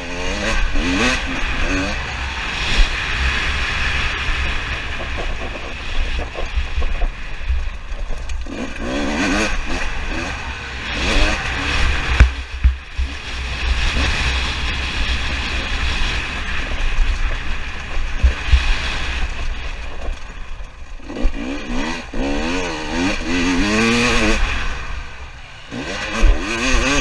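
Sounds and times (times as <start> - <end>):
dirt bike engine revving: 0.0 - 27.0
wind rumble on microphone: 0.0 - 27.0.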